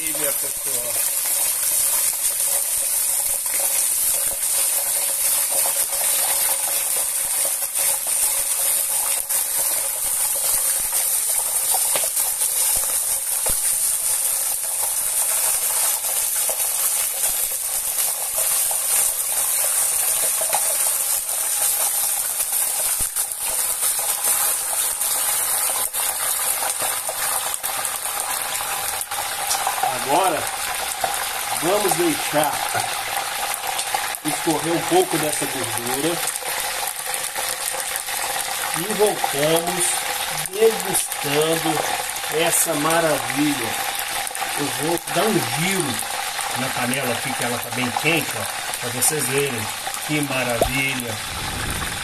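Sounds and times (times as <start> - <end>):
pork skin sizzling and crackling: 0.0 - 52.0.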